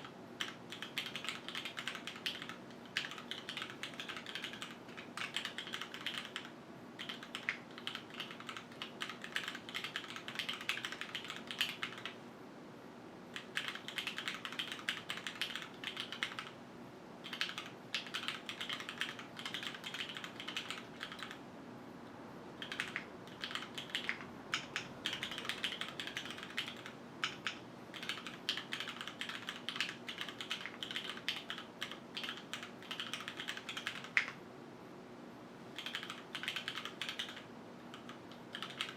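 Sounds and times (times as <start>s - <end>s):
faint steady hum: 0.0s - 38.9s
mechanical keyboard clacks: 0.4s - 12.2s, 13.4s - 16.5s, 17.2s - 21.4s, 22.6s - 34.4s, 35.8s - 38.9s.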